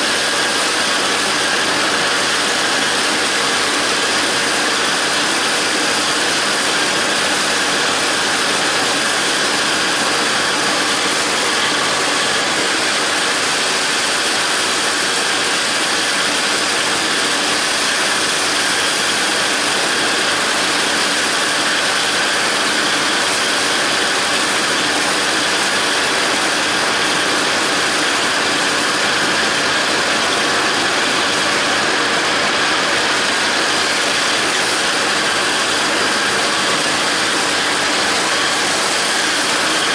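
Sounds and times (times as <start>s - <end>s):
mower cutterbar cutting grass: 0.0s - 39.9s
tractor diesel engine running: 0.0s - 39.9s.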